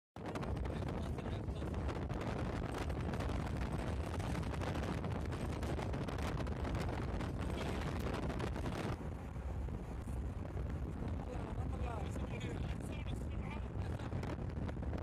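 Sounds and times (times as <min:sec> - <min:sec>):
wind blasting microphone: 0:00.2 - 0:15.0
vehicle road noise: 0:00.3 - 0:15.0.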